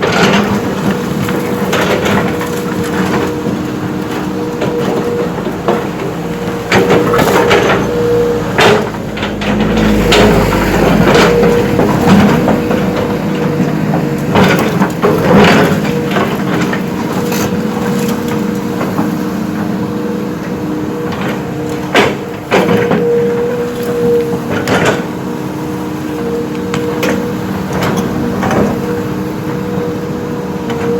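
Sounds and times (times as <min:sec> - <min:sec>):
diesel earthmoving machine running: 0:00.0 - 0:30.9.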